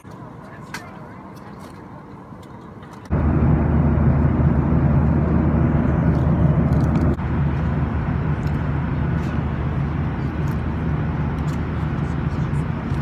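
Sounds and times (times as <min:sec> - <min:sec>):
jet engines roaring: 0:00.0 - 0:13.0
low hum: 0:01.2 - 0:13.0.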